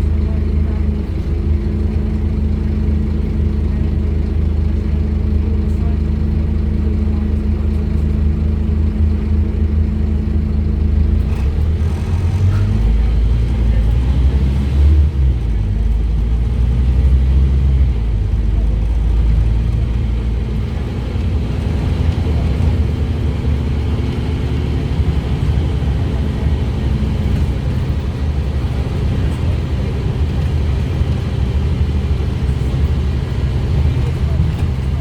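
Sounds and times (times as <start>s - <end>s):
bus diesel engine running: 0.0s - 35.0s
road rumble: 0.0s - 35.0s.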